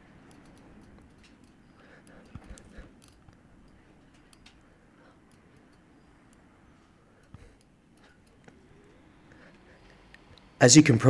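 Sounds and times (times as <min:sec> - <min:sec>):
soft clicks: 0:00.0 - 0:10.6.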